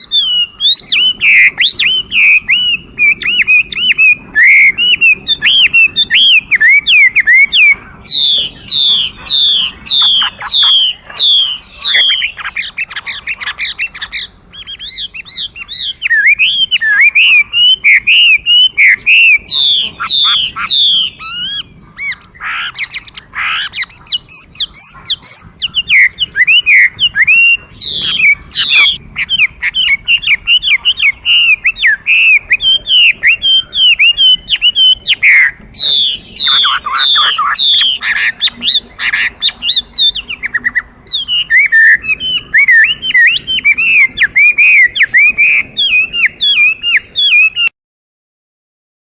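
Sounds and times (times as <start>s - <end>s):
bird singing whistled song: 0.0s - 47.8s.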